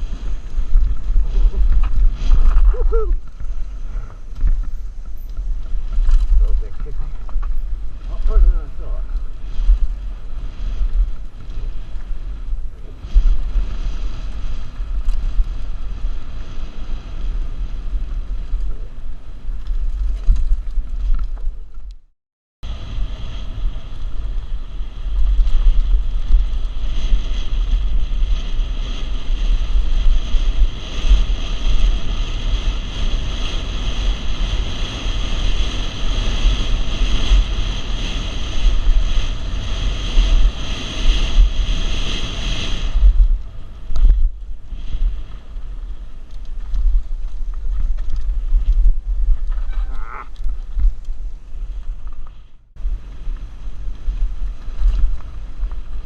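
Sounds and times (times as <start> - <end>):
bike rumbling and rattling over trail: 0.0 - 56.0
wind buffeting microphone: 0.0 - 56.0.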